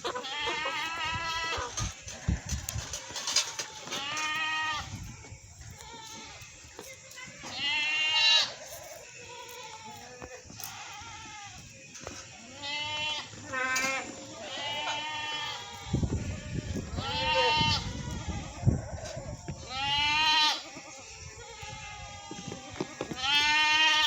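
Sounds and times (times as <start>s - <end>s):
goats bleating: 0.0s - 5.0s, 5.6s - 24.0s.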